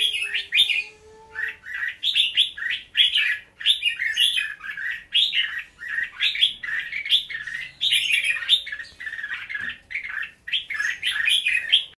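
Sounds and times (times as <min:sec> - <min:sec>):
bird singing chirping phrases: 0:00.0 - 0:12.0.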